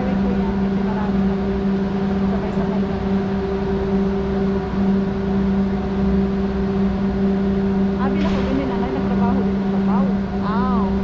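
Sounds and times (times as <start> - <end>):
aerial tram mechanical hum: 0.0 - 11.0.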